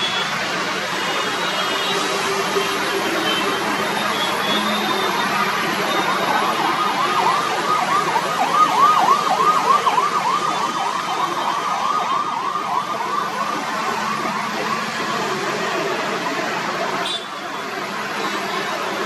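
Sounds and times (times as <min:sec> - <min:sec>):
siren yelping: 0:00.0 - 0:19.0
traffic hum: 0:00.0 - 0:19.0.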